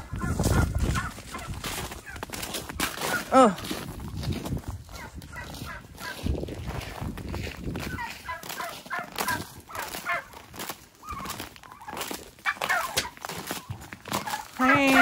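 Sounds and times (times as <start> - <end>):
turkeys gobbling: 0.0 - 3.4, 4.9 - 6.3, 7.8 - 15.0
footsteps crunching on ice: 0.0 - 15.0.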